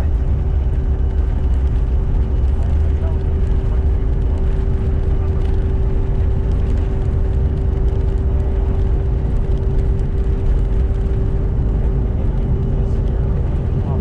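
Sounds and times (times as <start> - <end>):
jet engines rumbling and humming: 0.0 - 14.0.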